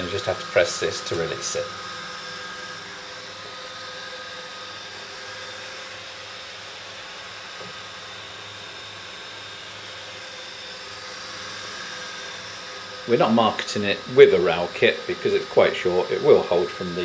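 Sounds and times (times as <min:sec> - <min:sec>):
server cooling fans whirring: 0:00.0 - 0:17.0.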